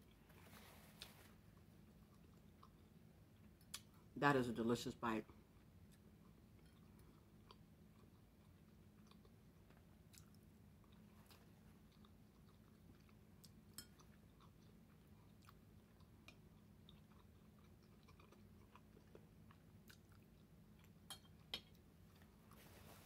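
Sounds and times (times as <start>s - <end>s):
faint chewing: 0.0s - 4.1s, 5.3s - 23.0s
low steady hum: 0.0s - 23.0s.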